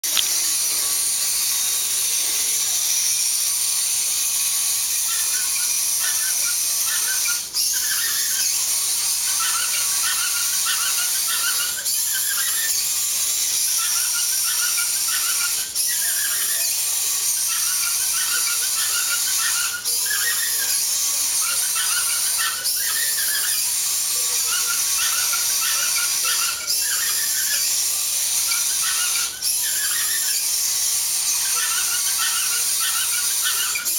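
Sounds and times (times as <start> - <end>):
robot motors whining: 0.0 - 33.9.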